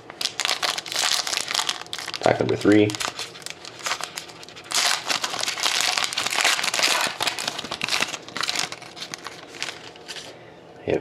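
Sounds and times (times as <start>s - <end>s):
foil card pack tearing and crinkling: 0.2s - 10.4s.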